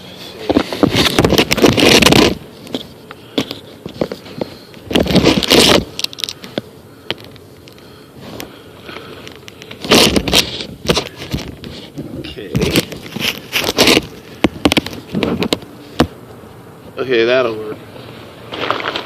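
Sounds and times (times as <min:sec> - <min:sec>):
rustling and scraping with clicks: 0:00.1 - 0:16.4, 0:18.4 - 0:19.0.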